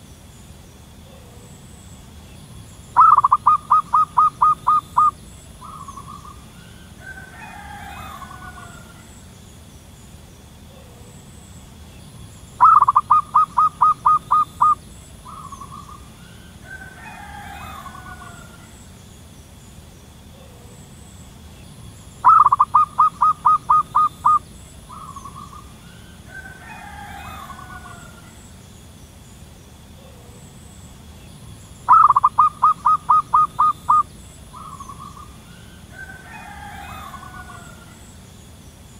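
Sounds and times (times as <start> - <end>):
dove calling: 0.0 - 38.9
faint bird chirping: 0.0 - 38.9.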